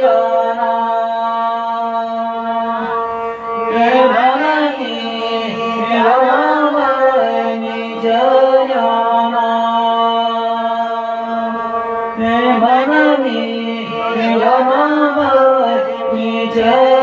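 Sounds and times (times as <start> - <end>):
bowed fiddle: 0.0 - 17.0
women singing devotional song: 0.0 - 17.0.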